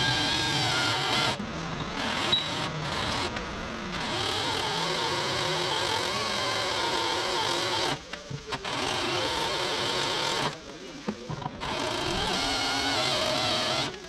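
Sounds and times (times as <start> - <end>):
motor-driven machine running: 0.0 - 14.0.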